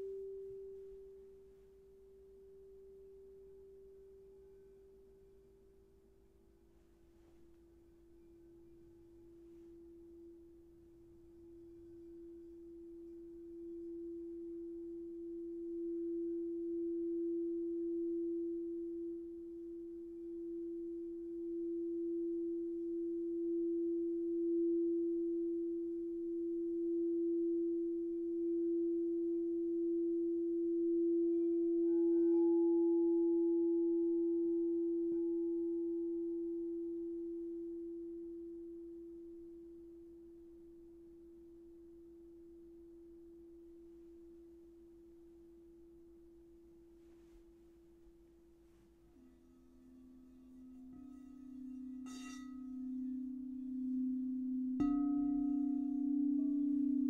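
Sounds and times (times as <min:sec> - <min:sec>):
singing bowl sustained tone: 0:00.0 - 0:47.3, 0:48.8 - 0:57.0.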